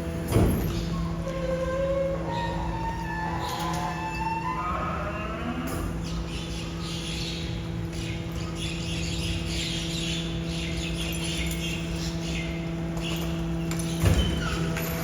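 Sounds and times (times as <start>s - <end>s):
garbage truck humming: 0.0s - 15.0s.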